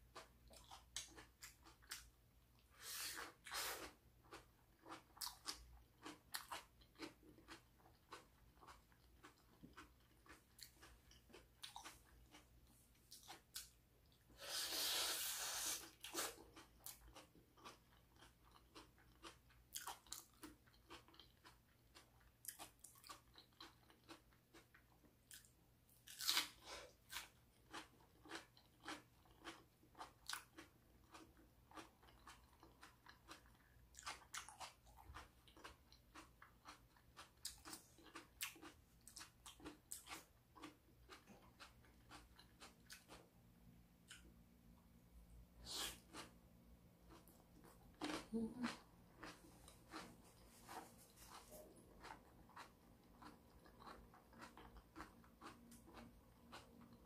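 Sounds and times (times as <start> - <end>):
person chewing crunchy food: 0.0 - 43.4, 44.0 - 57.0.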